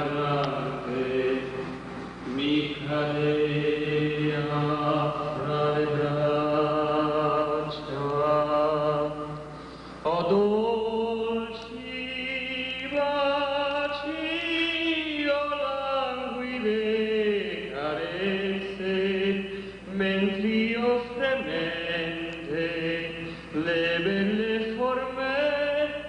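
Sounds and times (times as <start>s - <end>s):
man singing into a microphone: 0.0s - 9.4s, 10.0s - 26.0s.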